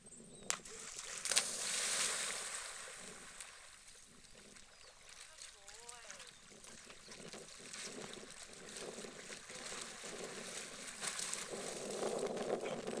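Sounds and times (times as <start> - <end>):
dog swimming and splashing water: 0.6 - 13.0.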